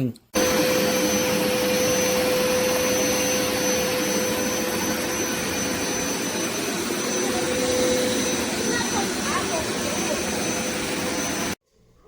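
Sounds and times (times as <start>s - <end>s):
carpet cleaner suction motor whine: 0.4s - 11.6s.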